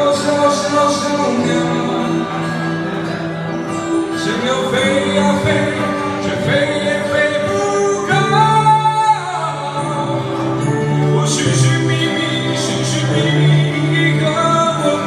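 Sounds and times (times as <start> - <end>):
person singing slow pop song: 0.0 - 15.0.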